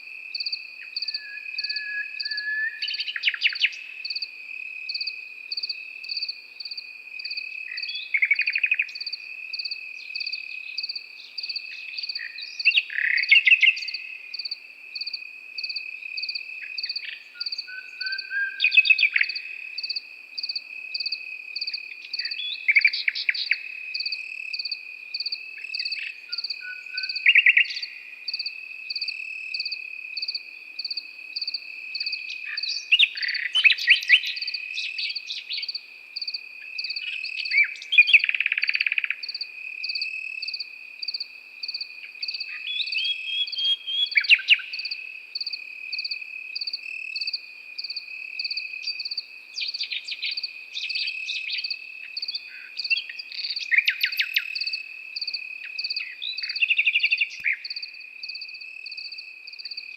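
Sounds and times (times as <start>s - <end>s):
nightingale singing: 0.0s - 4.3s, 4.9s - 59.9s
crickets chirping: 0.0s - 59.9s.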